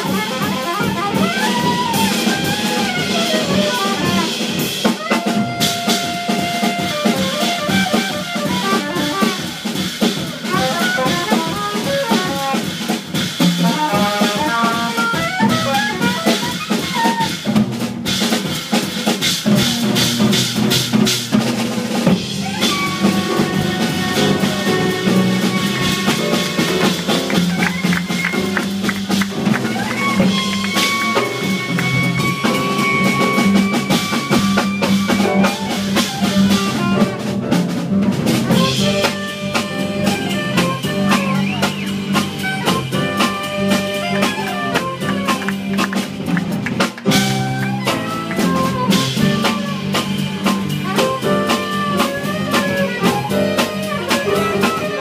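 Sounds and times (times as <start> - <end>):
saxophone: 0.0 - 17.6, 22.1 - 37.4, 38.4 - 46.4, 47.1 - 55.0
bass: 0.0 - 55.0
drum kit with rimshots: 0.0 - 55.0
grand piano: 0.0 - 55.0.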